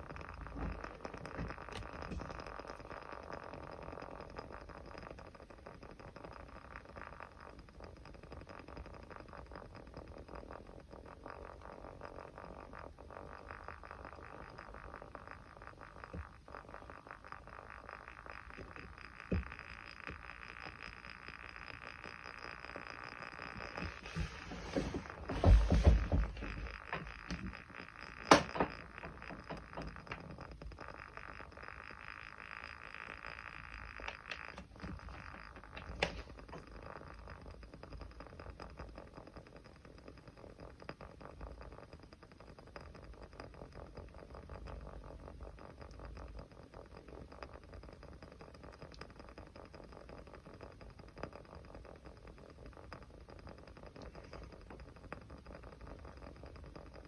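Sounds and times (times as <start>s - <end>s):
small fire crackling: 0.0s - 57.0s.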